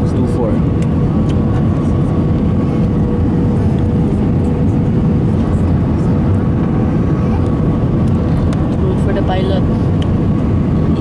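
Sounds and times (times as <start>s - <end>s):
aircraft cabin engine drone: 0.0s - 11.0s.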